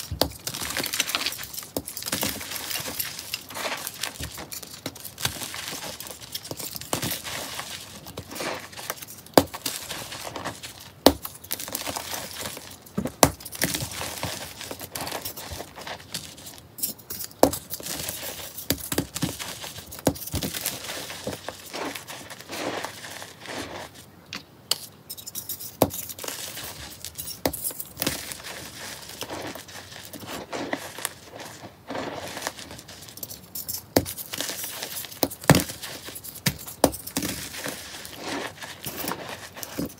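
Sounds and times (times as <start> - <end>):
dry powder blocks crunching and snapping: 0.0 - 39.9.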